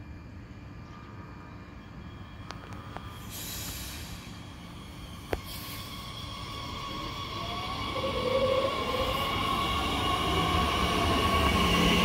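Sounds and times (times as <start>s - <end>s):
train wheels rumbling on rail: 0.8s - 12.0s.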